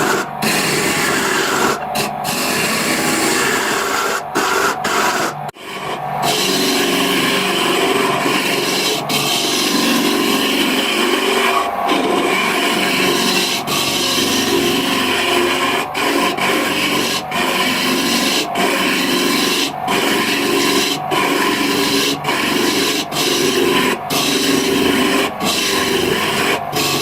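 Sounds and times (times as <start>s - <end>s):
abrasive tool rubbing wood: 0.0s - 27.0s.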